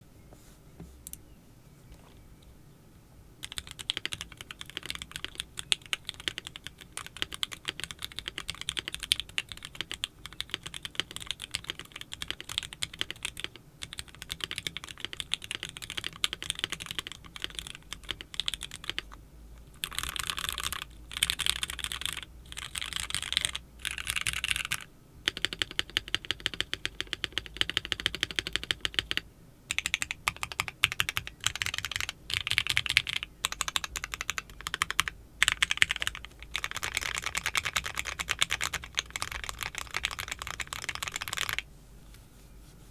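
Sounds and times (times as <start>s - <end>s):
typing on mechanical keyboard: 3.4s - 19.1s, 19.7s - 41.6s.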